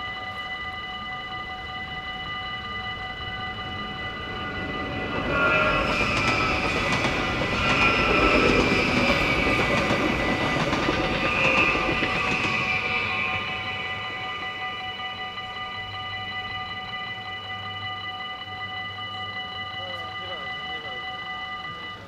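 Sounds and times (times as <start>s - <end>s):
level crossing bells ringing: 0.0s - 22.0s
train passing at speed: 0.0s - 22.0s.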